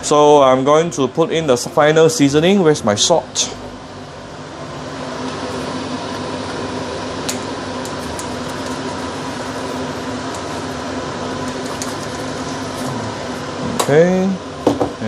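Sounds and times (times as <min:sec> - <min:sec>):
kitchen fan whirring hum: 0:00.0 - 0:15.0.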